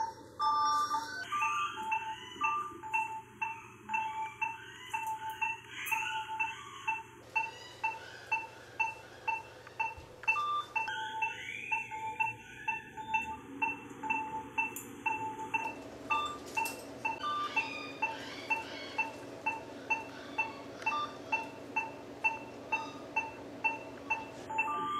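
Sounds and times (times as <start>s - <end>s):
patient monitor beeping: 0.0s - 24.9s.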